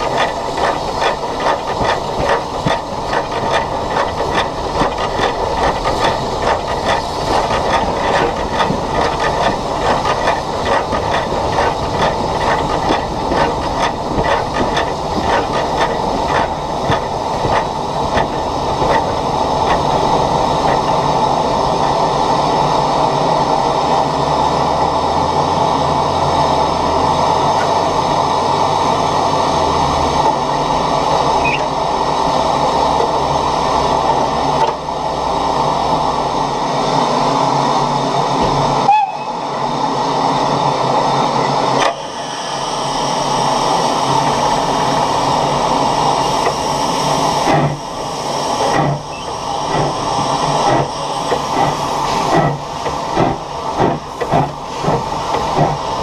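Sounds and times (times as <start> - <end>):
steam locomotive running: 0.0 - 56.0.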